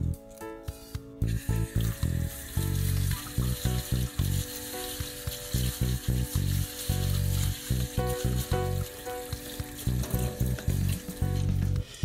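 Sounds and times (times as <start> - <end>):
hand rubbing rice grains: 0.3 - 12.0
tap water running on rice: 0.7 - 12.0
music with pulsing bass: 1.2 - 12.0.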